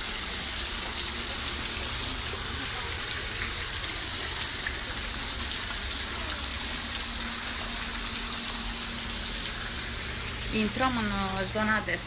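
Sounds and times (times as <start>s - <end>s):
water splashing into pool: 0.0s - 11.4s.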